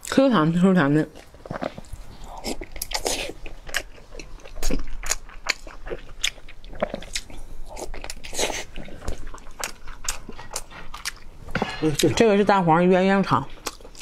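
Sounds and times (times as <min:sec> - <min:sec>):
person chewing food: 0:01.0 - 0:12.6, 0:13.5 - 0:14.0.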